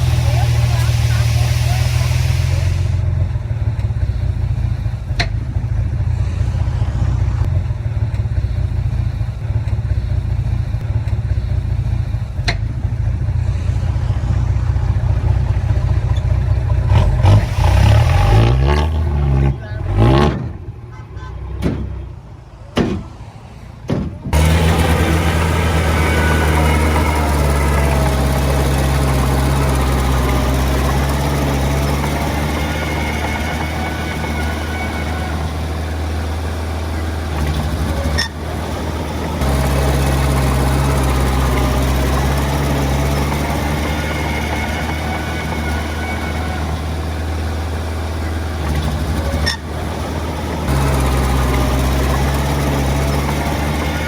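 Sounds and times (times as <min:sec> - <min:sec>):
heavy machinery diesel engine drone: 0:00.0 - 0:54.0.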